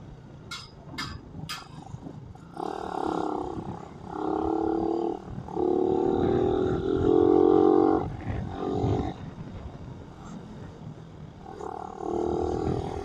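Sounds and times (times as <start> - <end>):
motorcycle engine running under load: 0.0 - 13.0.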